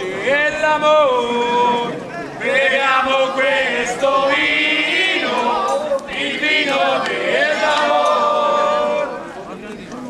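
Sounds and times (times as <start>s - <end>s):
group of voices singing: 0.0s - 9.4s.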